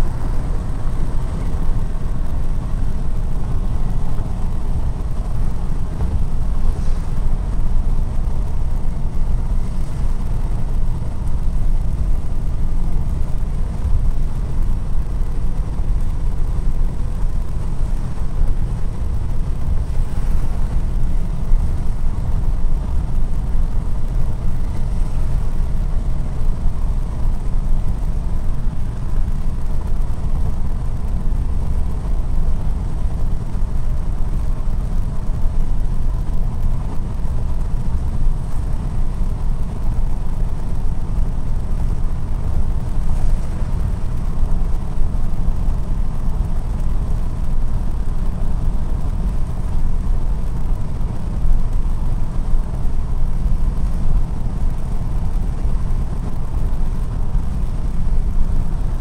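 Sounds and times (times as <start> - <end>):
car cabin road noise: 0.0 - 59.0
faint steady drone: 0.0 - 59.0.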